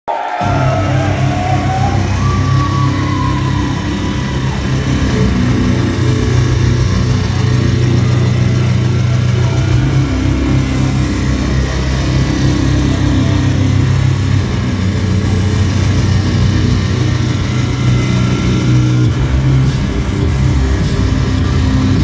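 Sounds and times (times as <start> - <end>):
distorted live band music: 0.4 - 22.0.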